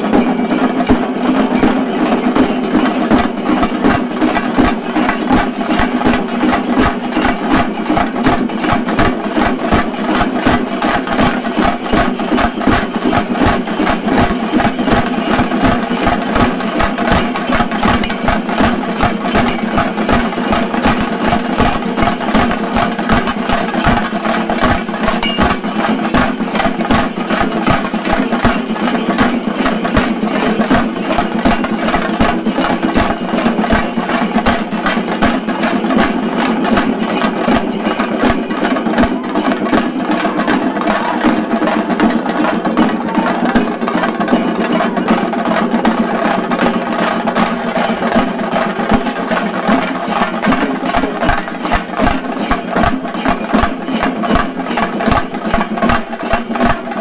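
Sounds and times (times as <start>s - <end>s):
drums beaten with sticks: 0.0s - 57.0s.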